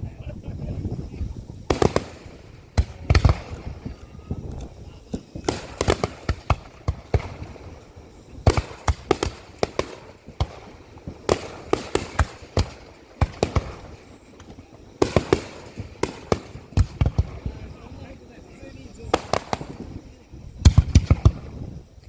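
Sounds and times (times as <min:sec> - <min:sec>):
firework shells bursting: 0:00.5 - 0:22.0.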